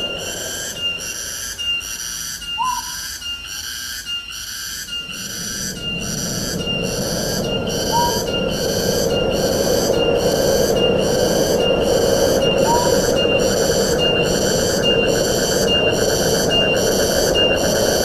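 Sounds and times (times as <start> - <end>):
shrill pulsing call: 0.0 - 3.2, 5.0 - 11.0, 11.6 - 17.6
wind in trees: 0.0 - 18.0.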